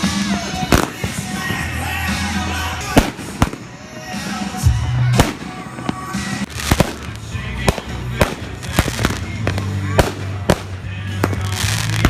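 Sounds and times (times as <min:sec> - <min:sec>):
background music: 0:00.0 - 0:12.0
fireworks bangs: 0:00.0 - 0:12.0.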